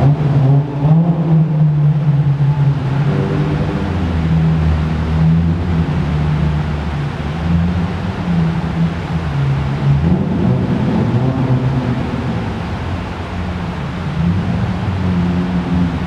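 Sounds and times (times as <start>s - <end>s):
car engine exhaust drone: 0.0s - 16.0s.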